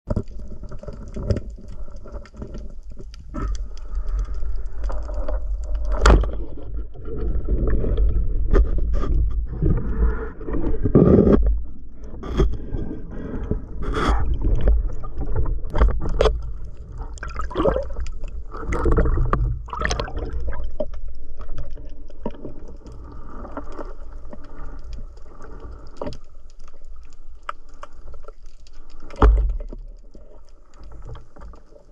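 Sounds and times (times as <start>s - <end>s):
underwater water rumble: 0.1s - 31.9s.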